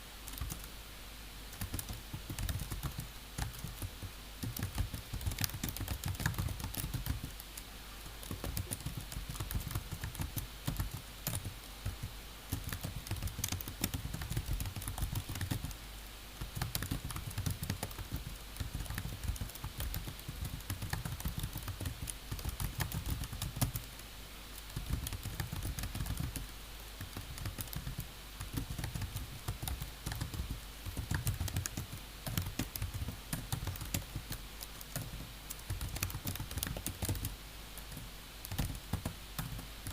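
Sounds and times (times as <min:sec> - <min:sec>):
typing on computer keyboard: 0:00.3 - 0:00.7, 0:01.5 - 0:07.5, 0:08.1 - 0:15.8, 0:16.4 - 0:23.8, 0:24.6 - 0:39.9.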